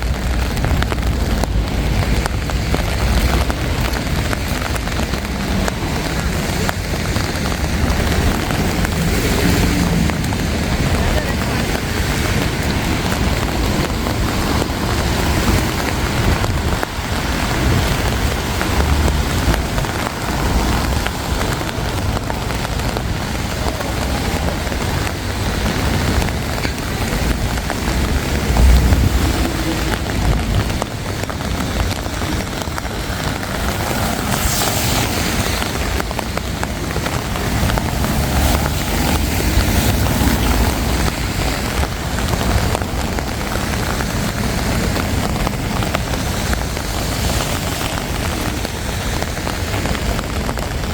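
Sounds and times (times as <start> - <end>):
low rumbles: 0.0 - 50.9
rain on wet street: 0.0 - 50.9.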